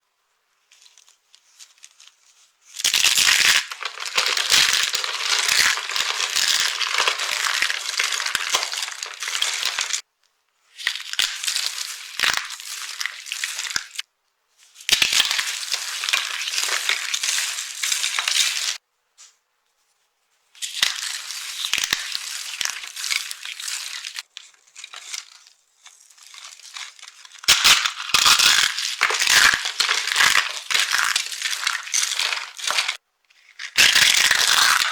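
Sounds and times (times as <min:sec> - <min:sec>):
soap crunching: 0:02.8 - 0:10.0, 0:10.8 - 0:14.0, 0:14.9 - 0:18.8, 0:20.6 - 0:34.9.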